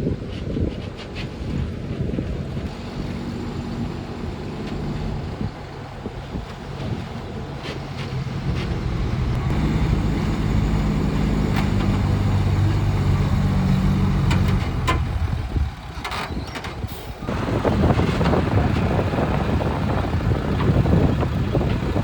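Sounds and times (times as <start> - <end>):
excavator diesel engine: 1.3 - 22.0.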